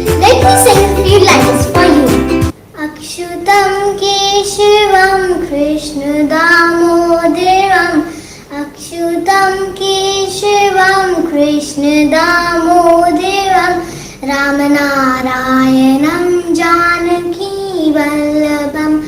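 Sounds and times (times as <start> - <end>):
girl singing devotional song: 0.0 - 19.0.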